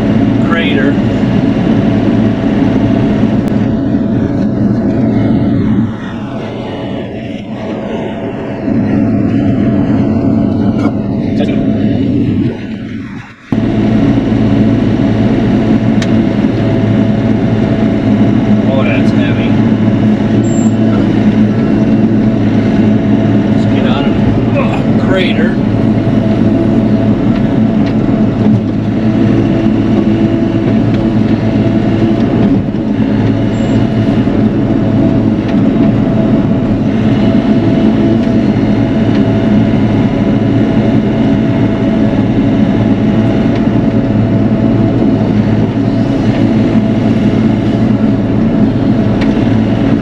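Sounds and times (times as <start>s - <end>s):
excavator diesel engine under load: 0.0s - 50.0s
hydraulics working: 0.0s - 50.0s.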